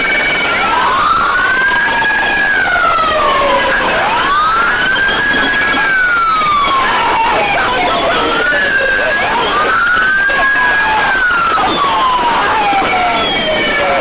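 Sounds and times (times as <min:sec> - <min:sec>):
police sirens wailing: 0:00.0 - 0:14.0.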